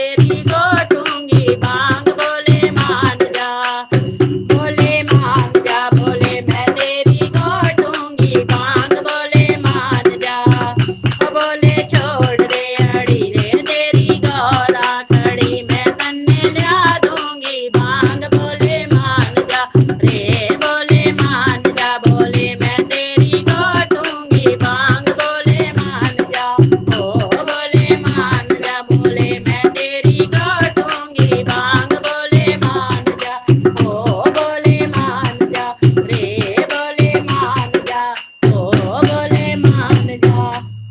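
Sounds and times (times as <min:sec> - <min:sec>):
hand drum rhythm: 0:00.0 - 0:40.9.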